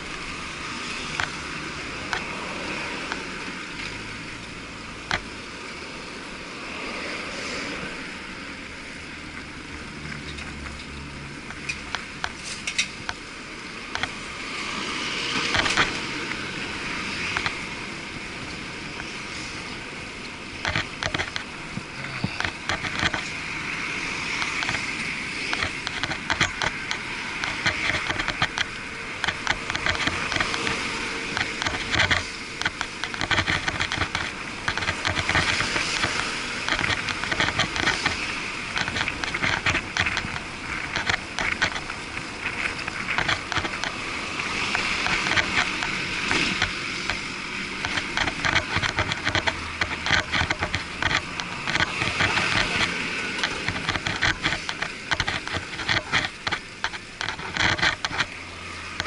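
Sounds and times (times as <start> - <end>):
bicycle rattling and clicking: 0.0 - 59.0
traffic: 0.0 - 59.0.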